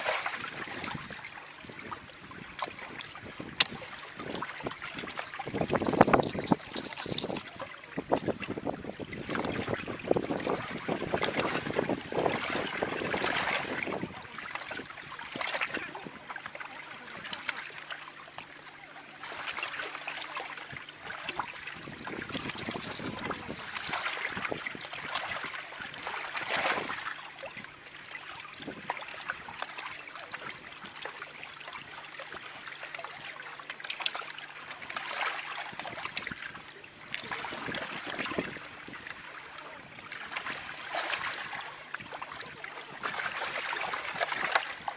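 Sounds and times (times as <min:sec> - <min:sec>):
waves lapping and splashing: 0:00.0 - 0:44.9
wind: 0:00.0 - 0:44.9.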